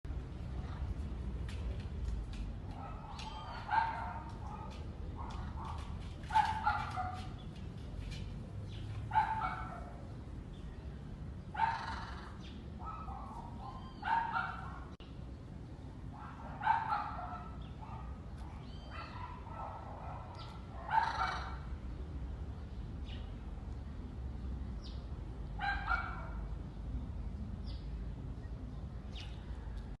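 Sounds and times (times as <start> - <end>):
low background noise: 0.1 - 30.0.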